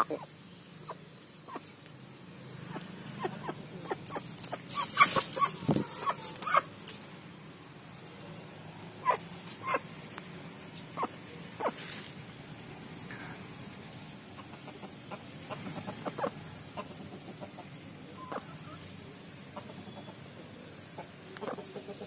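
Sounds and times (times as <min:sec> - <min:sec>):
chickens clucking: 0:00.0 - 0:07.2, 0:08.8 - 0:22.0.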